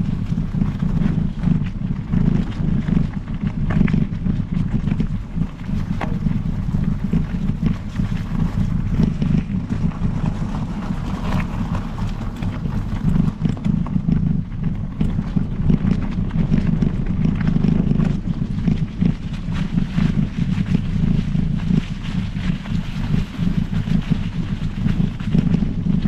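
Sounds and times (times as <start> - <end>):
bike clicks and rattles: 0.0 - 26.0
bike tyres rolling: 0.0 - 26.0
wind buffeting microphone: 0.0 - 26.0.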